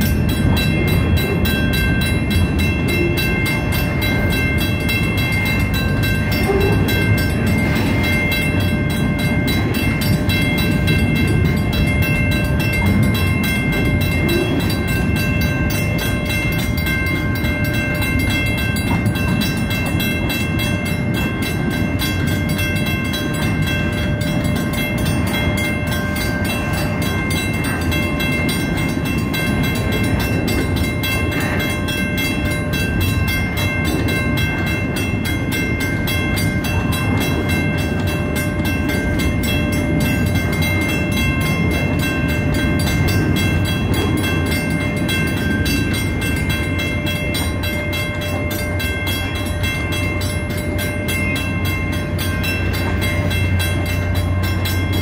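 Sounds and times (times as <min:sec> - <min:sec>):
crossing warning bell ringing: 0:00.0 - 0:55.0
train wheels clattering on rails: 0:00.0 - 0:55.0.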